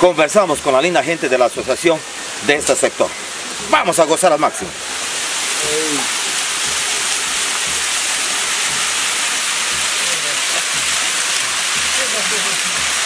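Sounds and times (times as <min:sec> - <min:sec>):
small waterfall splashing into pool: 0:00.0 - 0:13.0.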